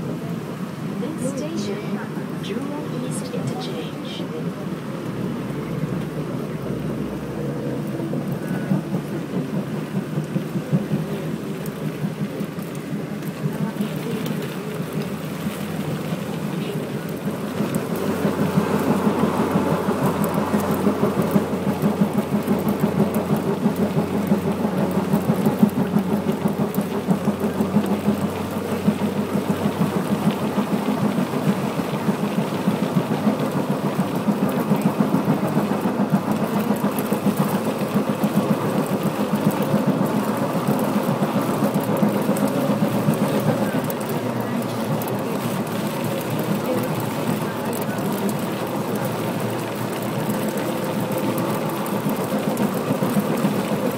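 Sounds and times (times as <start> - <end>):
train rumble inside carriage: 0.0 - 53.9.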